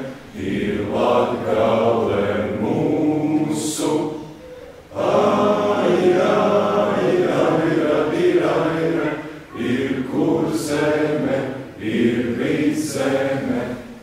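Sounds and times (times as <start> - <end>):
children's choir singing in unison: 0.0 - 14.0.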